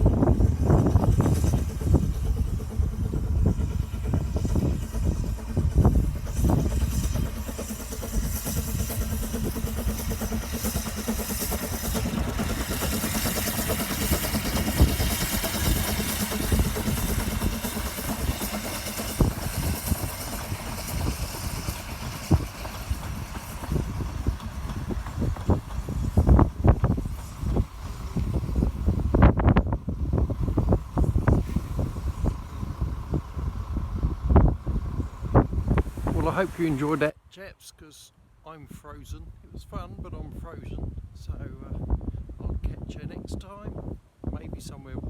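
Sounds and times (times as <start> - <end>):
wind buffeting microphone: 0.0 - 37.1, 38.6 - 45.0.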